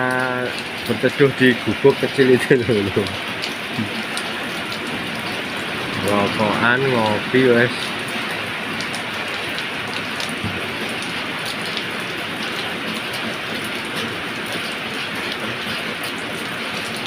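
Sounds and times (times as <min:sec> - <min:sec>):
heavy rain: 0:00.0 - 0:17.0
raindrops ticking: 0:00.0 - 0:17.0.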